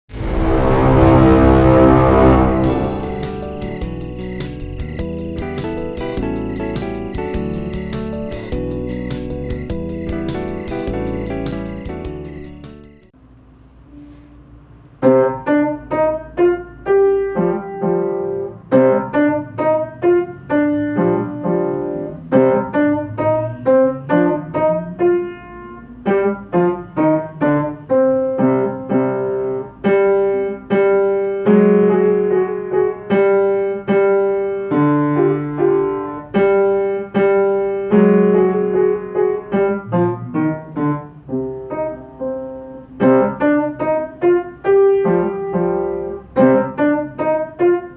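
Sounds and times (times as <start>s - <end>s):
piano piece: 0.0s - 13.1s, 15.0s - 47.9s.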